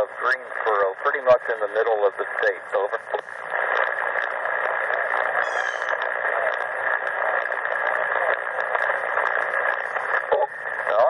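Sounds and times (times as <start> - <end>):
shortwave static hiss: 0.0 - 11.0.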